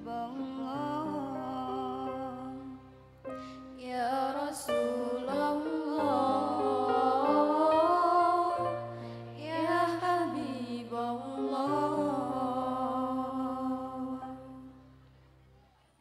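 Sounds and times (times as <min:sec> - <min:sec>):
girl singing into microphone: 0:00.0 - 0:14.7.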